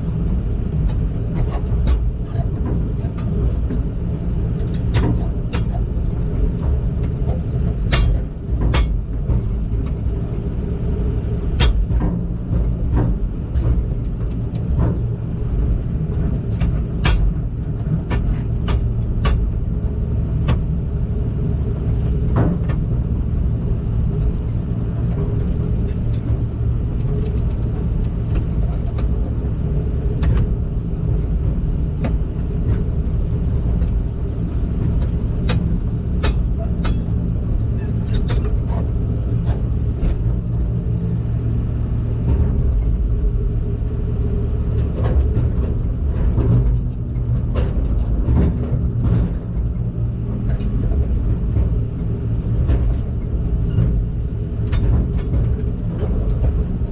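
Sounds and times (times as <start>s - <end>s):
heavy machine engine rumbling: 0.0s - 56.9s.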